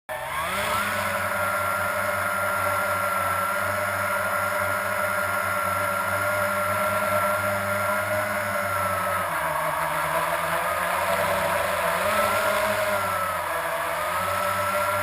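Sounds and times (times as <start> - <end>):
drone motors whining: 0.1 - 15.0.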